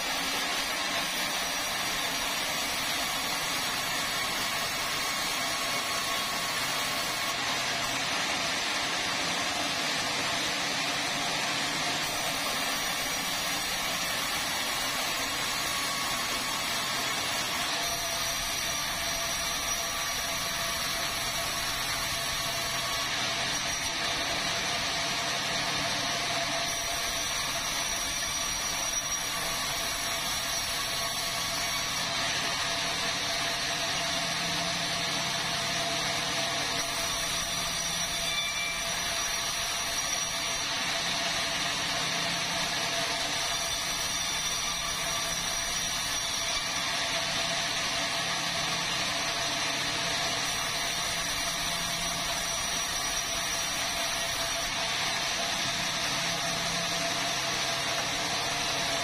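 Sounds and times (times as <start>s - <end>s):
band sawmill droning and whining: 0.0s - 59.0s.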